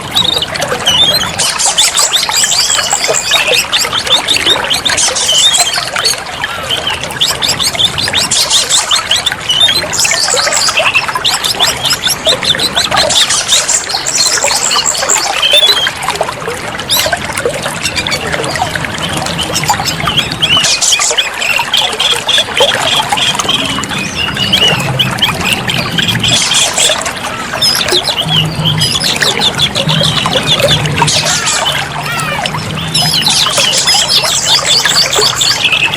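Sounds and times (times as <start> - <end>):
bird singing chirps and whistles: 0.0 - 16.1, 16.8 - 35.9
trickling water: 0.0 - 35.9.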